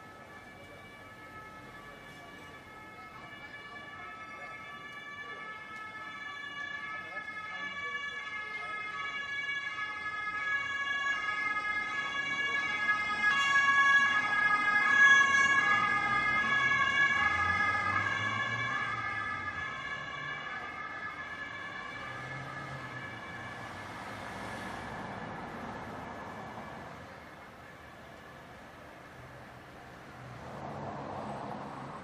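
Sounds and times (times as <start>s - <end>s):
ambulance two-tone siren: 0.0s - 30.0s.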